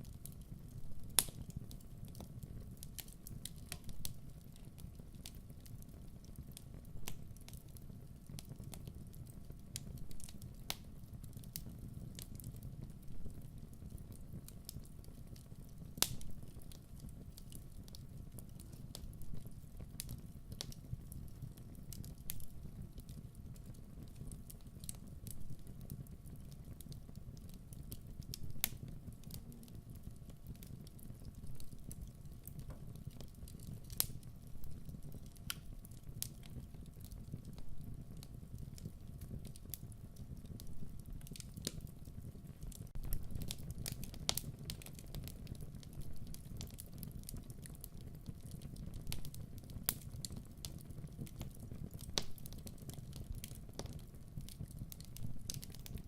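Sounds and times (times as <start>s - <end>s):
low fire rumble: 0.0s - 56.0s
wood fire crackling and popping: 0.0s - 56.0s.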